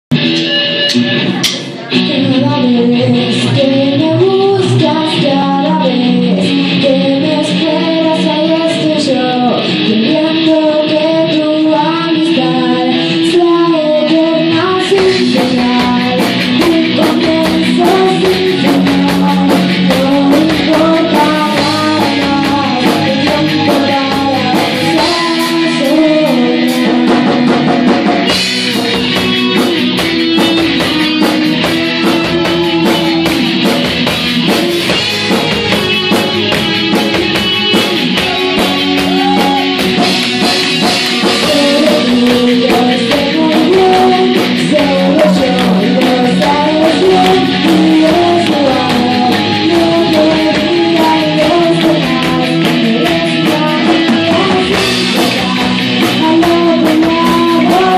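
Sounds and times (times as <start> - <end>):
drum kit: 0.1 - 57.9
electric guitars: 0.1 - 57.9
person singing: 0.8 - 57.9.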